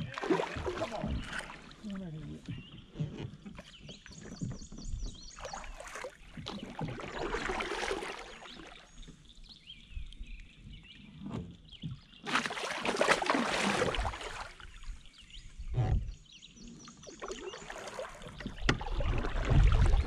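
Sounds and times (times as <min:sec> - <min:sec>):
kayak paddle splashing in water: 0:00.0 - 0:09.7, 0:11.3 - 0:16.2, 0:17.0 - 0:20.0.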